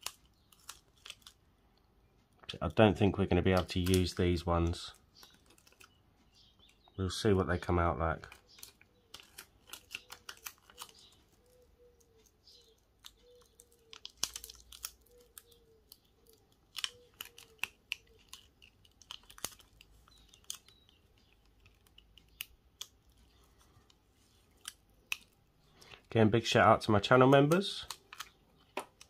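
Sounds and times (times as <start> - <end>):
vinyl film clicks and crackles: 0.0 - 7.0, 8.1 - 26.0, 27.0 - 29.0.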